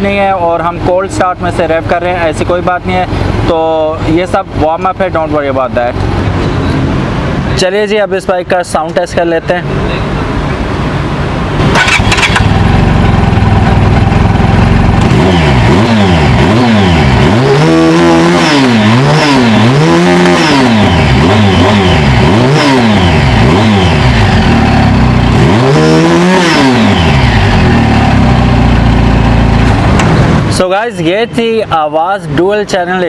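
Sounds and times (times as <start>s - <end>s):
motorcycle engine idling and revving: 0.0s - 7.6s, 9.7s - 30.7s.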